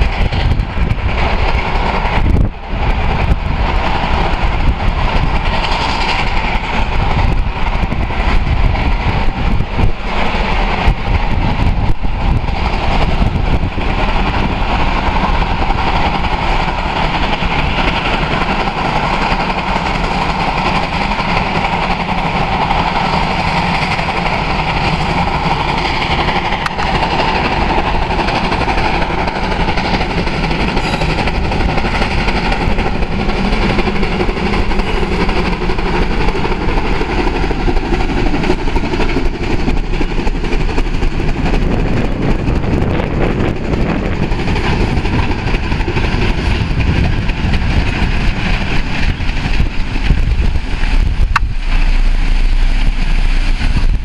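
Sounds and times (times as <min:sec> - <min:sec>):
steam locomotive exhaust: 0:00.0 - 0:54.0
train wheels clattering on rails: 0:00.0 - 0:54.0.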